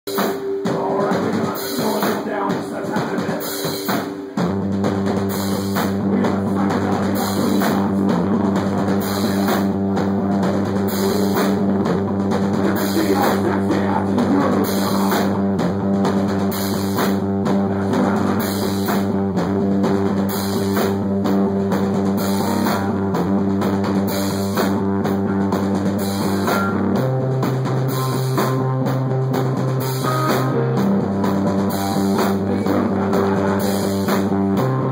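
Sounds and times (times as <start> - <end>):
bass guitar: 0.0 - 34.9
rock drum kit: 0.0 - 34.9
electric guitar: 0.1 - 34.9.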